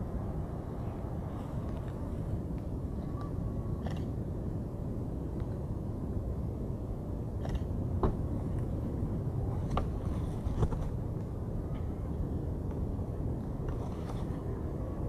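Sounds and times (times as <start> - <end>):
strong wind: 0.0 - 15.0.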